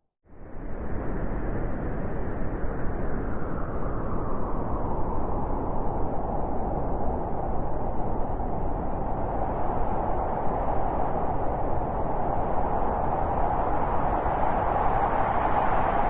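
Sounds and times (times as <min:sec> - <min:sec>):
wind blowing with low rumble: 0:00.3 - 0:16.0.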